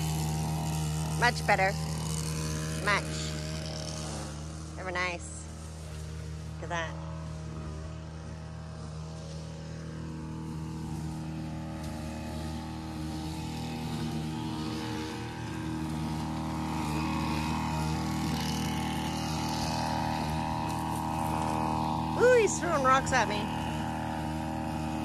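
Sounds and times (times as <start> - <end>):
string trimmer cutting brush: 0.0 - 25.0.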